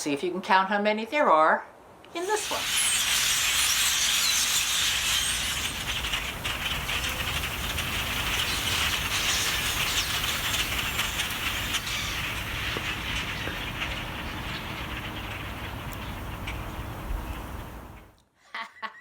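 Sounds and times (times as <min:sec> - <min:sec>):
flock of birds chattering: 0:02.2 - 0:18.1.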